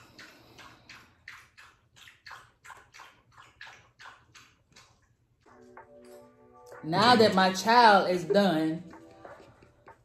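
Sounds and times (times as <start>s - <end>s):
dog lapping water: 0.0s - 10.0s.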